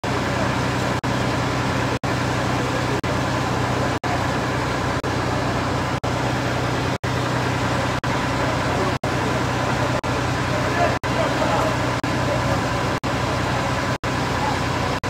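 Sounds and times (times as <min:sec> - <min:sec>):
street noise with engine hum: 0:00.0 - 0:15.0.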